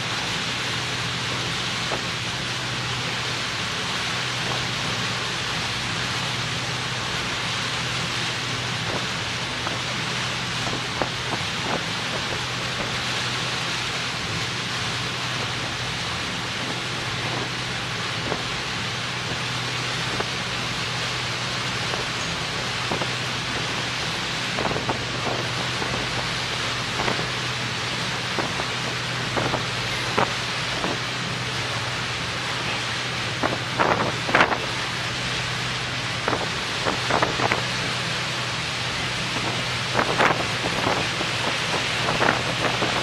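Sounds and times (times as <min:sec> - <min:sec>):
low engine drone: 0:00.0 - 0:43.0
rushing hiss of wake and wind: 0:00.0 - 0:43.0.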